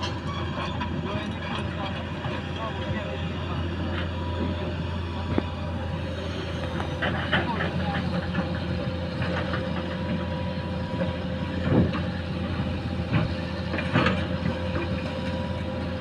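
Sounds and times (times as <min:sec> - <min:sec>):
diesel engine running with whine: 0:00.0 - 0:16.0.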